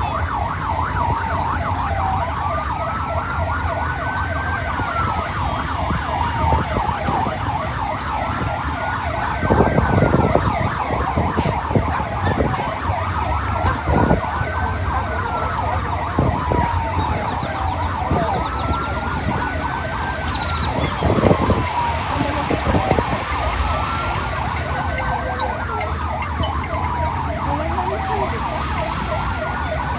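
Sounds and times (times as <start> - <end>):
vehicle siren wailing: 0.0 - 29.9
motorcycle engines running: 5.8 - 29.9.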